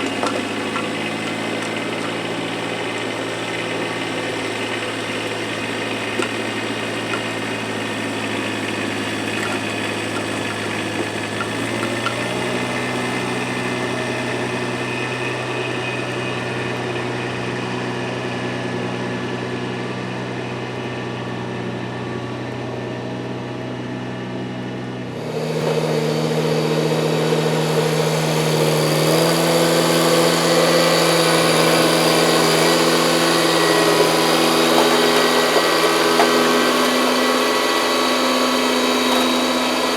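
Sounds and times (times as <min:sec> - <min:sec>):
snowblower high whirring: 0:00.0 - 0:39.9
tractor diesel engine running: 0:00.0 - 0:39.9.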